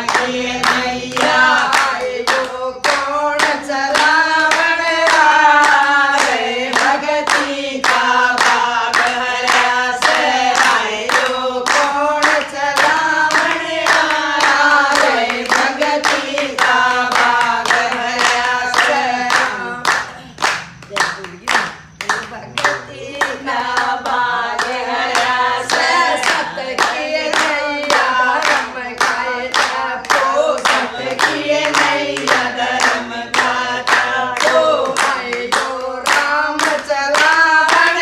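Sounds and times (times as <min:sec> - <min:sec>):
hand-clapping steady beat: 0:00.0 - 0:38.0
women singing devotional song: 0:00.0 - 0:38.0.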